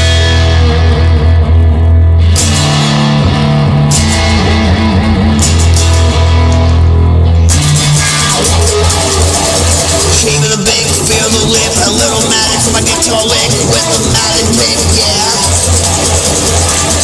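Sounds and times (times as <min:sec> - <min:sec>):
instrumental rock guitar music: 0:00.0 - 0:17.0
low bass line: 0:00.0 - 0:17.0.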